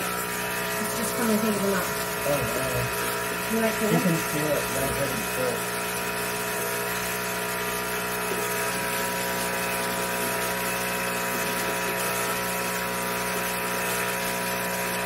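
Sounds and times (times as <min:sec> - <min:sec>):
vacuum pump motor hum: 0:00.0 - 0:15.0.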